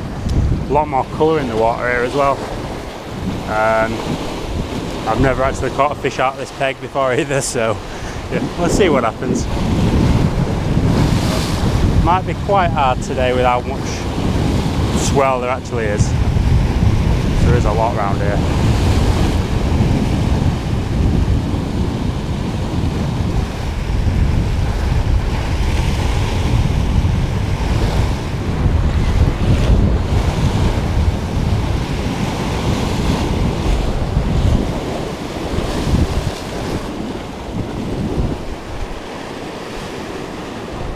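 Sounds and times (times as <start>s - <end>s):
waves breaking over rocks: 0.0s - 40.9s
wind buffeting microphone: 0.0s - 40.9s.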